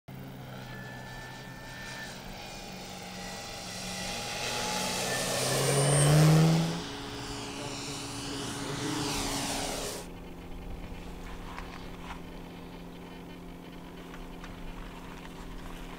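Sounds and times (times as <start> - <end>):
model airplane propeller hum: 0.1 - 15.9.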